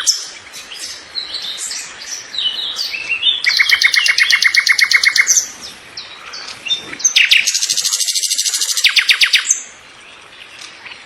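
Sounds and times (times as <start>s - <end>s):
small birds trilling: 0.0s - 11.0s.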